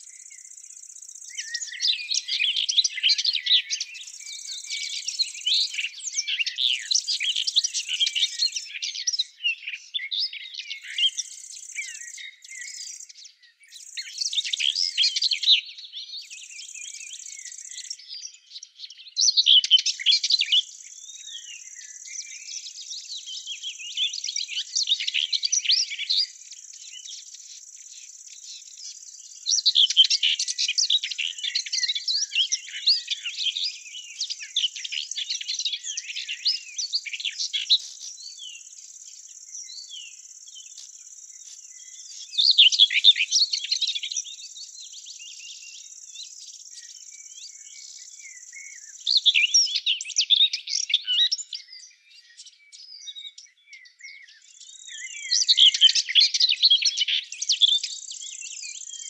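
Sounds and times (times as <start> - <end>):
small birds twittering: 0.0 - 59.0.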